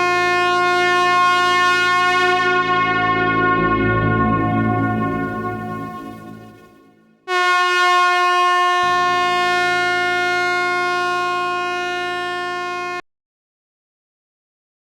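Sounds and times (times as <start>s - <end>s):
truck air horn blast: 0.0s - 13.0s.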